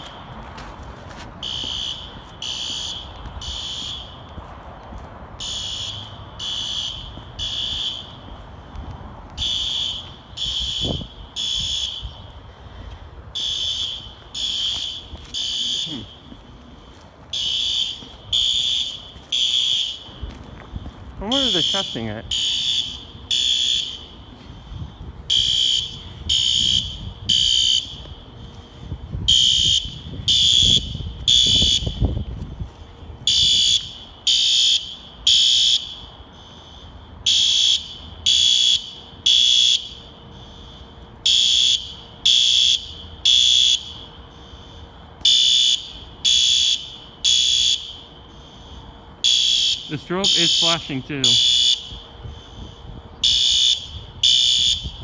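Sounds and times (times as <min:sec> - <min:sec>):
fire alarm horns blasting: 0:00.0 - 0:55.0.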